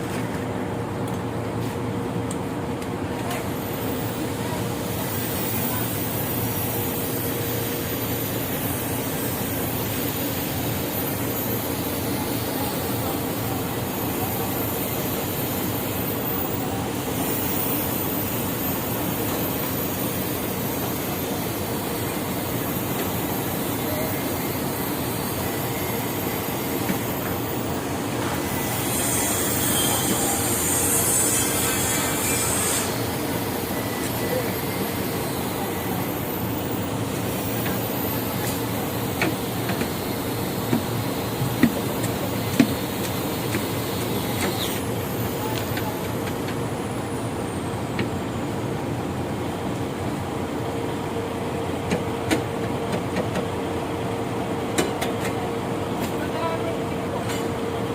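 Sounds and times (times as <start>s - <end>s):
concrete pump and mixer engines: 0.0s - 57.9s.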